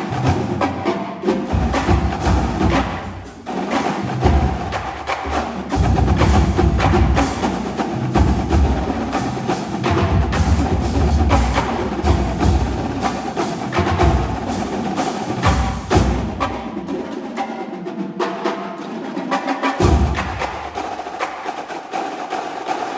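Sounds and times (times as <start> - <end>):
snare and tenor drums: 0.0 - 22.9.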